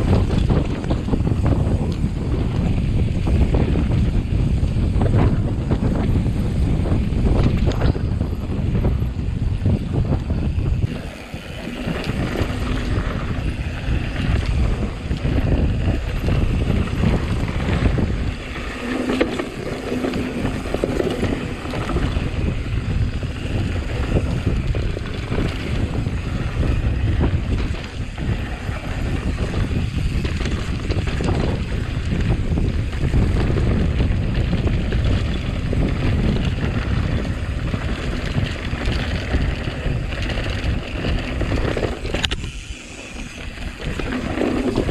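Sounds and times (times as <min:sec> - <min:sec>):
bike rattling and knocking: 0:00.0 - 0:44.9
bike tyres rumbling: 0:00.0 - 0:44.9
wind buffeting microphone: 0:00.0 - 0:44.9.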